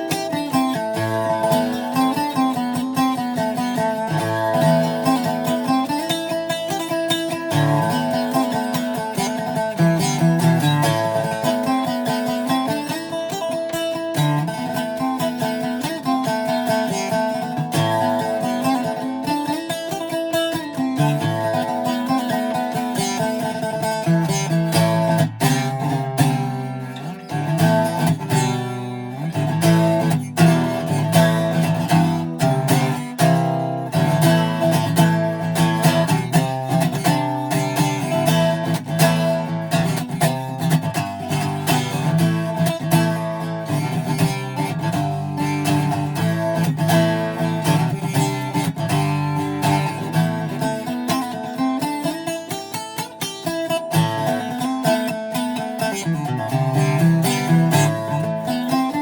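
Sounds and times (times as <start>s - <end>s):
acoustic guitar strumming chords: 0.0s - 59.0s.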